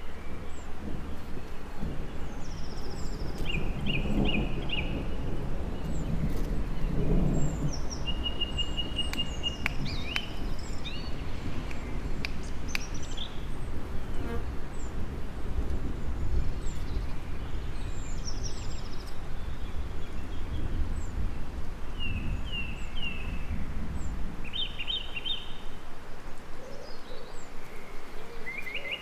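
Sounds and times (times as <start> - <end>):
songbirds chirping and calling: 0.0 - 29.0.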